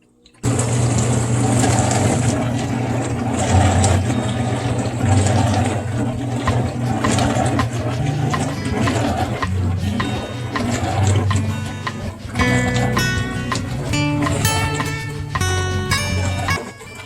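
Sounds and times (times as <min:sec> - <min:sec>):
water splashing inside dishwasher: 0:00.0 - 0:17.0
dishwasher pump humming: 0:00.3 - 0:17.0.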